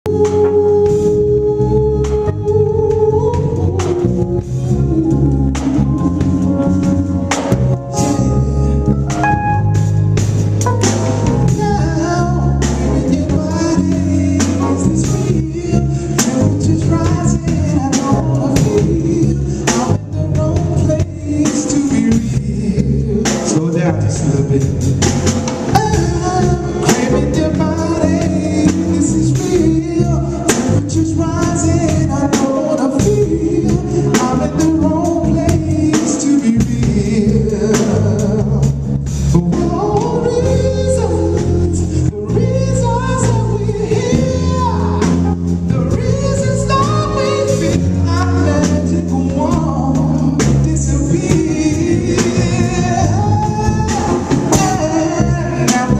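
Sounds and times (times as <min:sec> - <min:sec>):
band playing a song: 0:00.0 - 0:55.9
man and woman singing: 0:00.1 - 0:07.1, 0:11.2 - 0:55.9.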